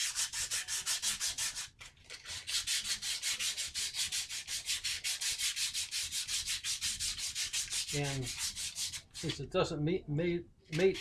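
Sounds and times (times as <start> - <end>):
sandpaper scratching on wood: 0.0 - 9.5, 10.7 - 11.0.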